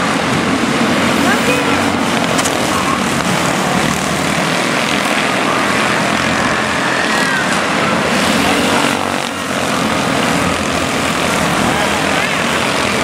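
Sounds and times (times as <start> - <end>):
small race car engines buzzing: 0.0 - 13.0.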